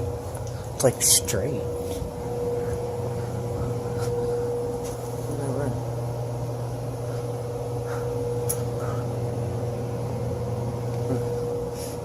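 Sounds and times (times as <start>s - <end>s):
constant whining tone: 0.0s - 12.0s
furnace blower motor humming: 0.0s - 12.0s.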